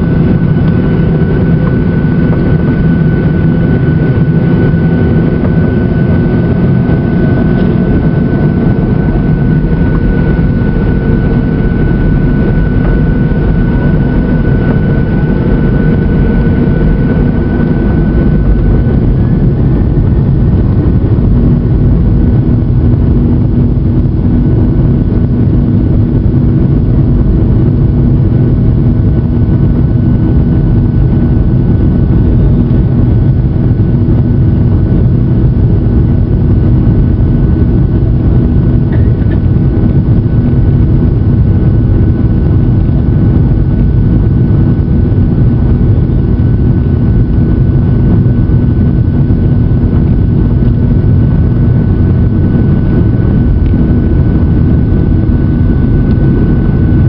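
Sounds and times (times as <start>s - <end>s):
jet engines running: 0.0s - 57.0s
low hum: 0.0s - 57.0s
thin high whine: 0.0s - 57.0s.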